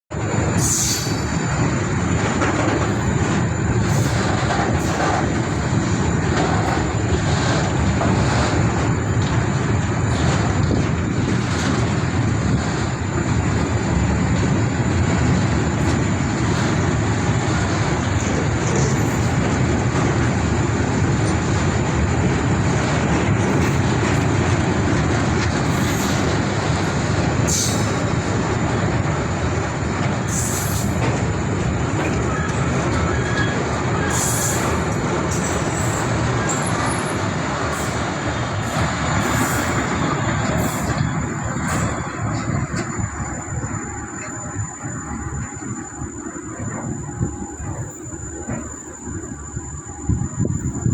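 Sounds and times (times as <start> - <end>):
train wagons rumbling on rails: 0.1 - 50.9.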